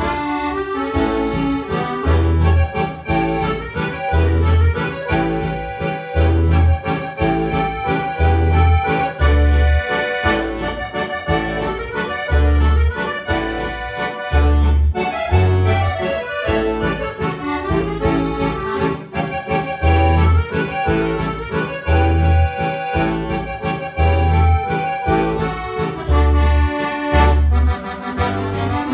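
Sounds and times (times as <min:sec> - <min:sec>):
accordion folk melody: 0:00.0 - 0:28.9.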